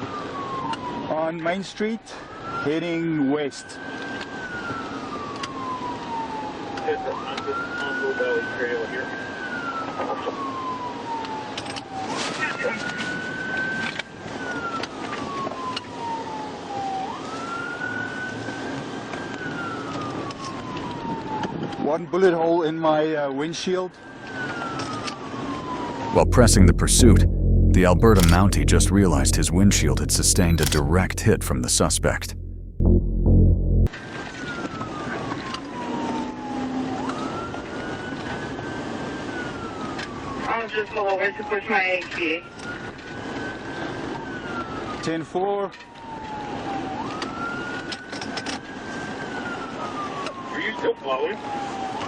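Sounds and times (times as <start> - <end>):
police siren wailing: 2.1 - 21.8, 24.2 - 41.8, 46.0 - 52.0.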